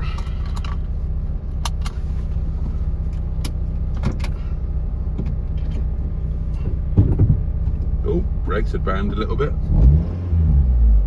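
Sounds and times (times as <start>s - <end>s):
brakes clicking and knocking: 0.0s - 10.0s
car engine running: 0.0s - 11.0s.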